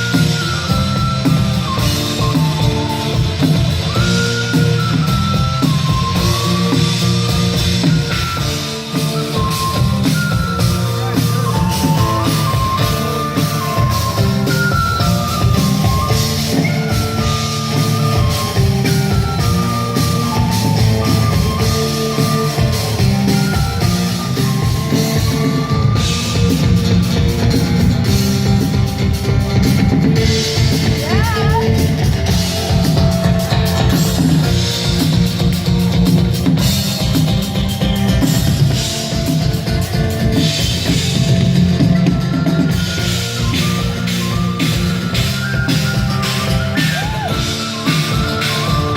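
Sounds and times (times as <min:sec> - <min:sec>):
live band playing: 0:00.0 - 0:48.9
steady drum beat: 0:00.0 - 0:48.9.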